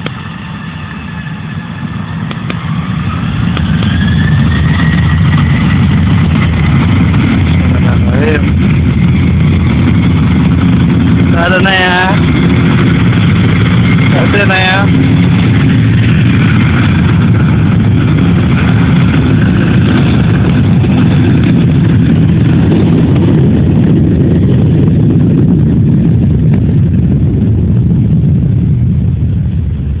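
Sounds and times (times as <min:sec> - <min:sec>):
plane engines rumbling: 0:00.0 - 0:30.0.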